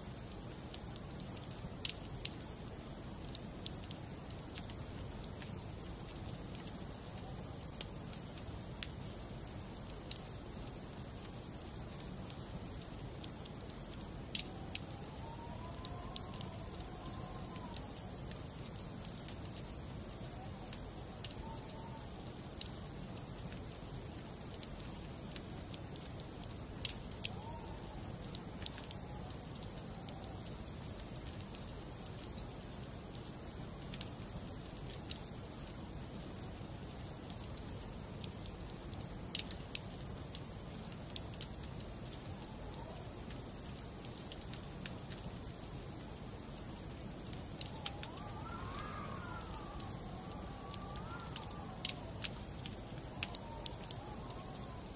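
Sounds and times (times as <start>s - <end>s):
fire hiss: 0.0s - 54.9s
wood fire crackling and popping: 0.0s - 54.9s.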